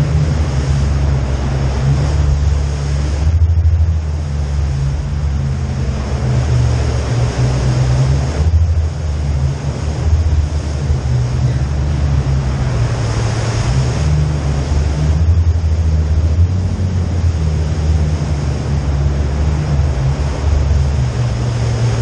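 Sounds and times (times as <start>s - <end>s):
low engine rumble: 0.0s - 22.0s
tyres rushing through water: 0.0s - 22.0s.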